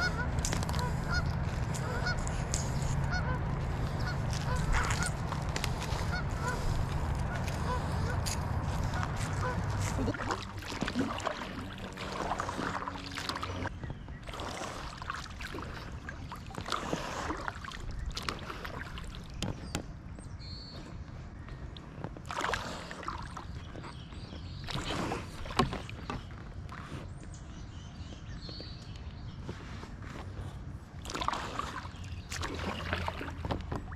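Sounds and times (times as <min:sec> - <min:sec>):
paddle splashing in water: 0:00.0 - 0:20.0, 0:21.8 - 0:27.1, 0:29.5 - 0:33.9.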